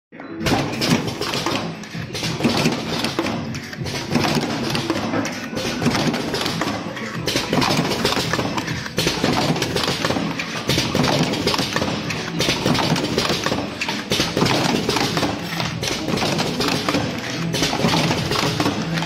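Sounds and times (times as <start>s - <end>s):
cartoning machine clattering: 0.4s - 19.0s.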